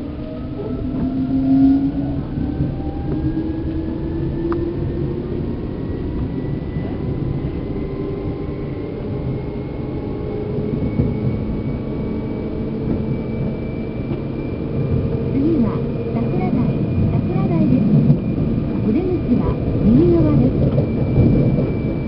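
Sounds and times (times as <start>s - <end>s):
traction motor whine: 0.0s - 22.0s
wheels rumbling on rail: 0.0s - 22.0s.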